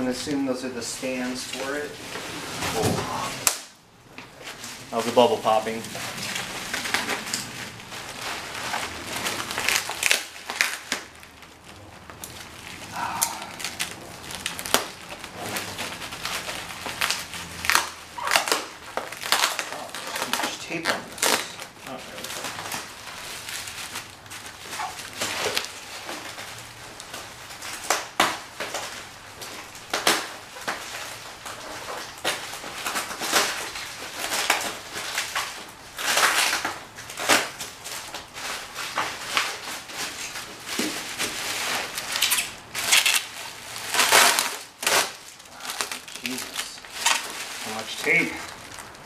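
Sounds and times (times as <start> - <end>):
bubble wrap crinkling: 0.0 - 49.0.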